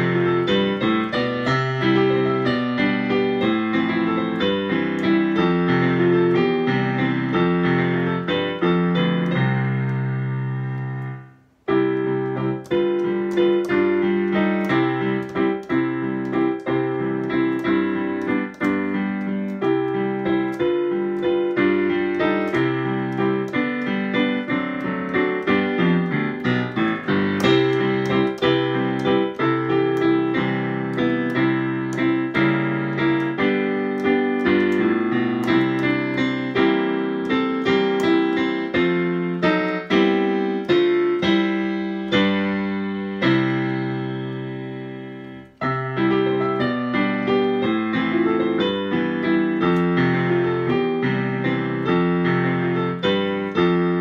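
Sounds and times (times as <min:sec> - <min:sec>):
digital piano melody over chords: 0:00.0 - 0:54.0.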